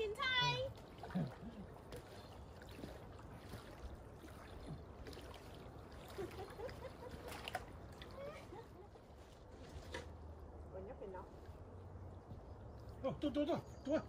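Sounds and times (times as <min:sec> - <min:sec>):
light water sounds: 0:00.0 - 0:14.0
low rumble of wind: 0:00.0 - 0:14.0.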